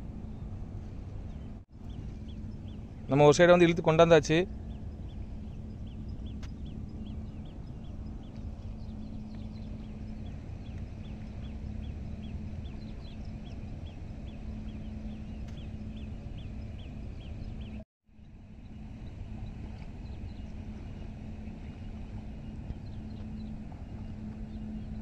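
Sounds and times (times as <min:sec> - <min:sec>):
low rumble and hum: 0:00.0 - 0:25.0.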